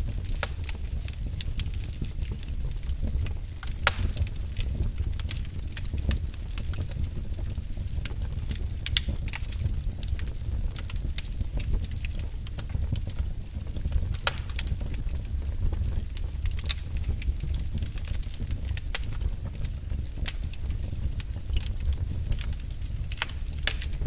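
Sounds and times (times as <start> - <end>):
fire crackling in fireplace: 0.0 - 24.0.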